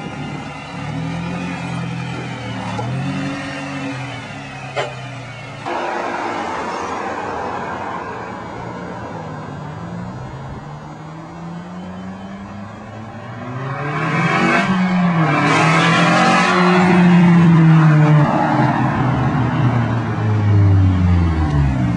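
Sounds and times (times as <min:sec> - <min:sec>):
car engine running and revving: 0:00.0 - 0:21.9.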